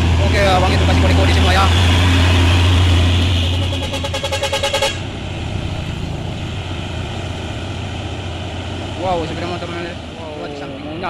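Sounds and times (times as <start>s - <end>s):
fast pulsing engine clatter: 0.0s - 10.7s
diesel truck engine drone: 0.0s - 11.0s.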